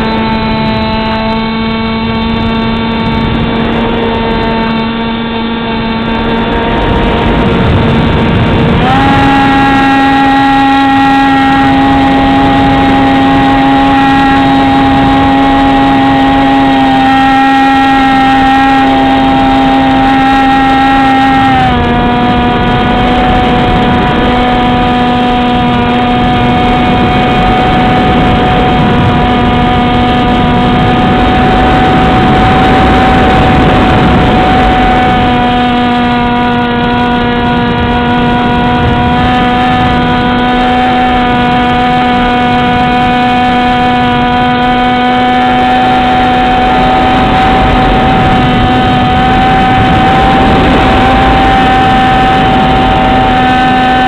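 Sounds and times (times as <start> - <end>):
model airplane motor whine: 0.0 - 54.0
rushing wind noise: 0.0 - 54.0.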